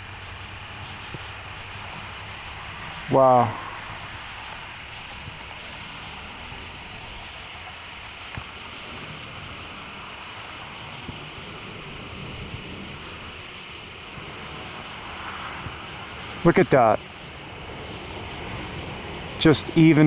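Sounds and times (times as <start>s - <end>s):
distant aircraft rushing overhead: 0.0s - 20.0s.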